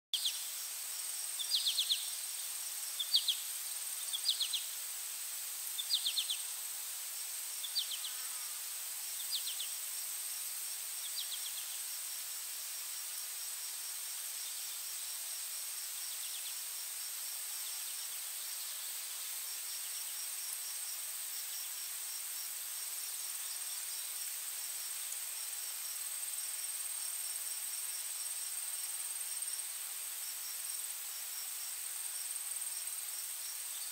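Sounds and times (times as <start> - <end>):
insect chirps: 0.2 - 33.9
insect drone: 0.2 - 33.9.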